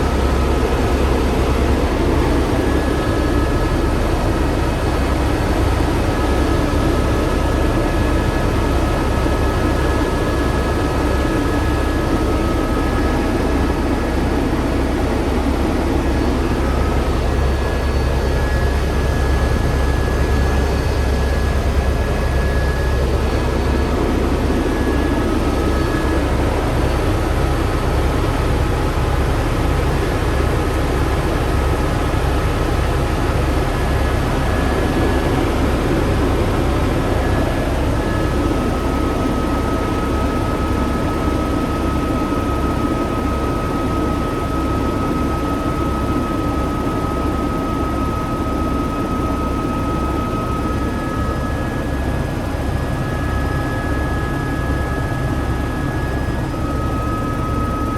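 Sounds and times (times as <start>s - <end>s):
helicopter rotor pulsing: 0.0s - 57.9s.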